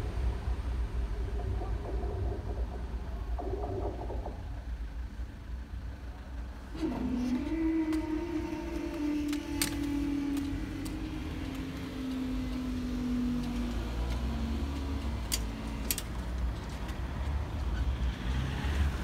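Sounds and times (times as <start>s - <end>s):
low hum falling in pitch: 0.0s - 15.9s
cars rumbling over crossing: 0.0s - 19.0s.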